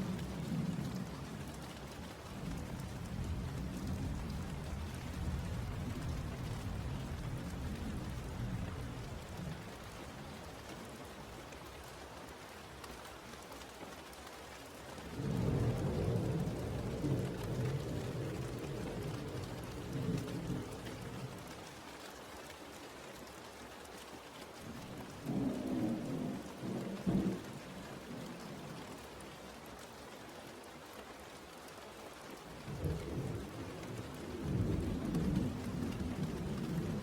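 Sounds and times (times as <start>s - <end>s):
steady rain: 0.0s - 37.0s.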